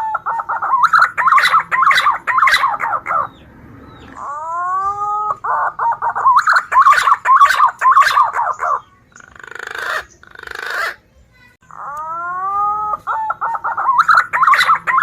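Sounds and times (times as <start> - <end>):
pigeon whistling call: 0.0 - 11.0, 11.8 - 15.0.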